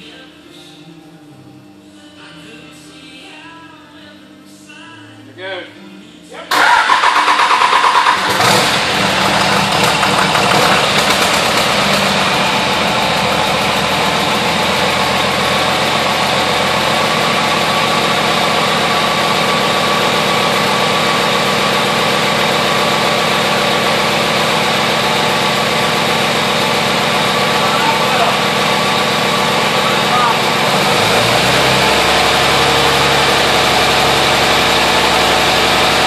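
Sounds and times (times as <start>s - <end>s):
truck engine starting and idling: 6.5s - 36.0s.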